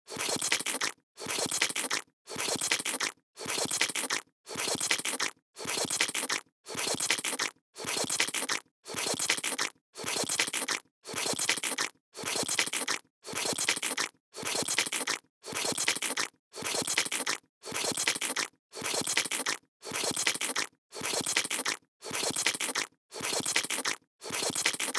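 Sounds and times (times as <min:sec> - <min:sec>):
scraping crunching sound: 0:00.1 - 0:24.9.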